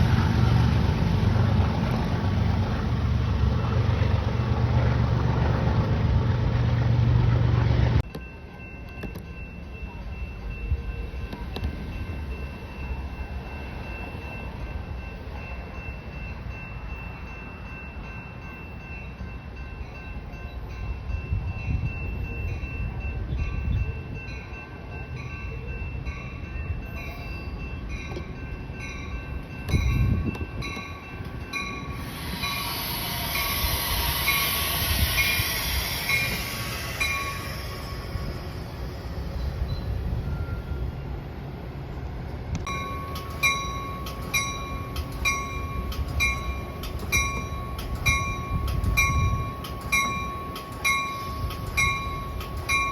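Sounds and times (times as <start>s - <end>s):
hissing rush of passing train: 0.0s - 52.9s
train running on rails: 0.0s - 52.9s
crossing bells ringing: 6.6s - 41.8s, 42.6s - 52.9s.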